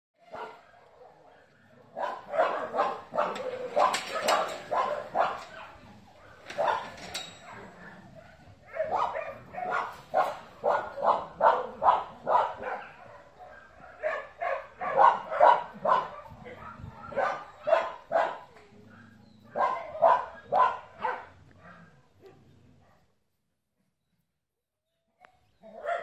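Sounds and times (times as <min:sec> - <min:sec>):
dog barking: 0:00.2 - 0:23.1, 0:25.7 - 0:26.0.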